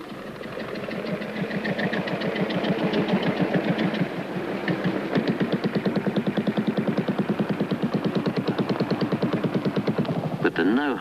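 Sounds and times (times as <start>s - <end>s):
motorcycle engine at low revs: 0.0s - 10.8s.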